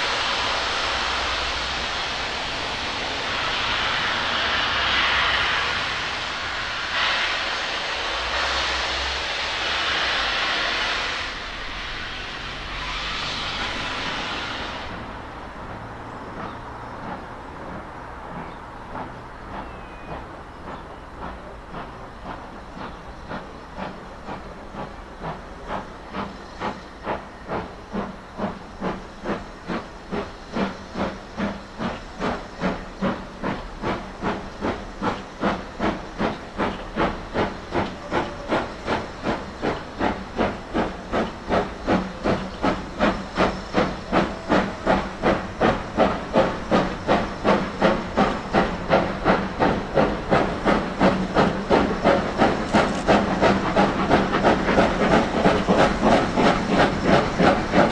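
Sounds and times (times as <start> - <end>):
steam locomotive chuffing: 0.0 - 57.9.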